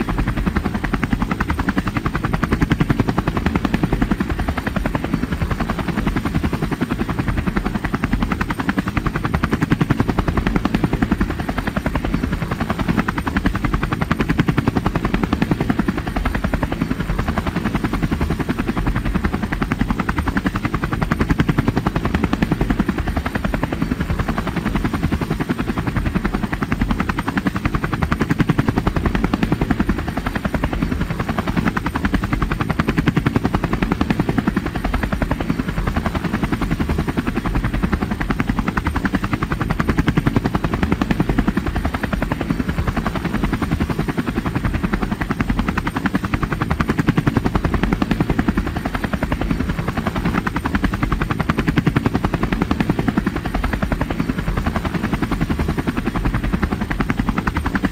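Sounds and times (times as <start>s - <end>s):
drone rotor noise: 0.0s - 57.9s.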